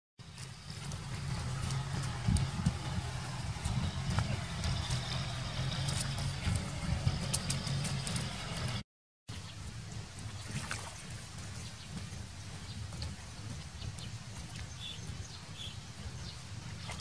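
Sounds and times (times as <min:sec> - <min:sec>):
steady low rumble: 0:00.2 - 0:17.0
water splashing and sloshing: 0:00.2 - 0:17.0.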